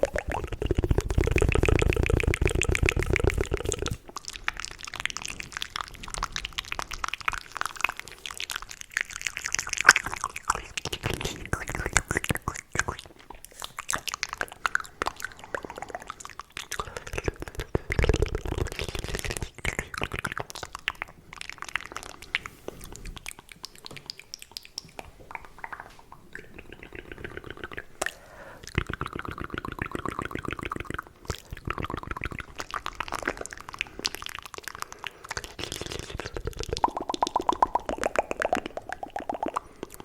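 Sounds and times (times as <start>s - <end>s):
mouth clicks and tongue pops: 0.0s - 40.0s.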